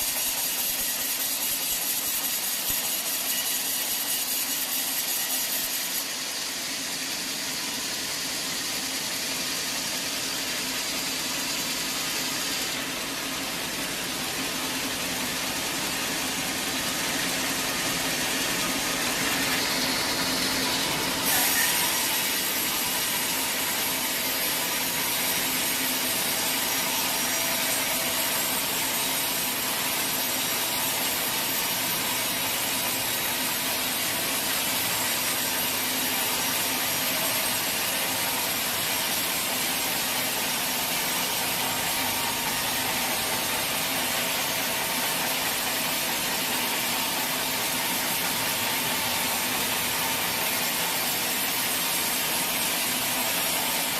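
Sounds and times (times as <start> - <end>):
saw cutting through a log: 0.0 - 53.9.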